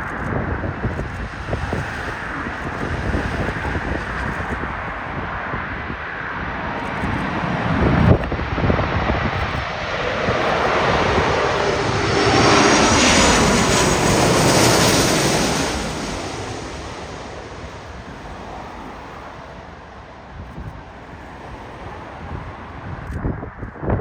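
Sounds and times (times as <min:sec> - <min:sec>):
jet airliner passing overhead: 0:00.0 - 0:24.0.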